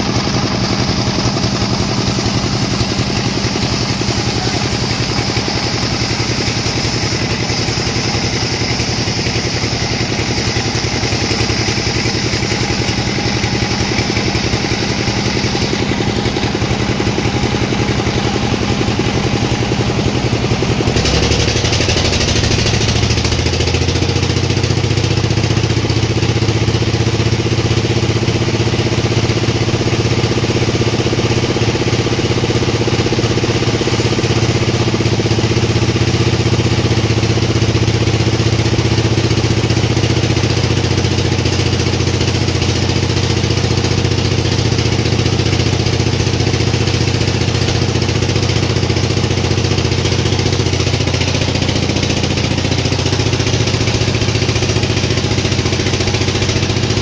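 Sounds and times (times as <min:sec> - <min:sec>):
sawmill machinery droning: 0:00.0 - 0:57.0.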